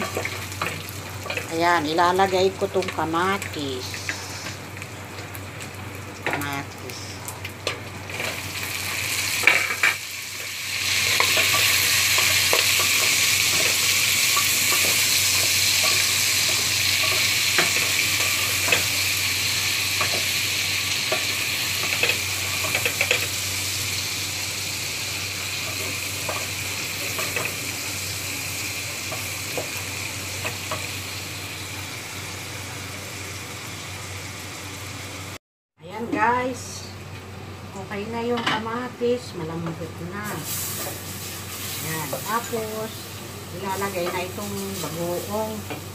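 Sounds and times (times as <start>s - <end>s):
loud sizzle in a pot: 0.0s - 35.4s, 36.2s - 45.9s.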